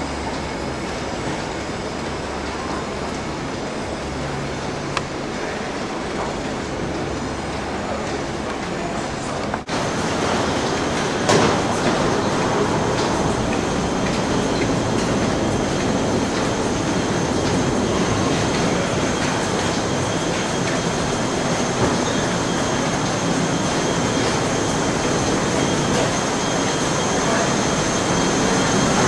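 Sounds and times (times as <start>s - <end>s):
airliner rumbling: 0.0s - 29.0s.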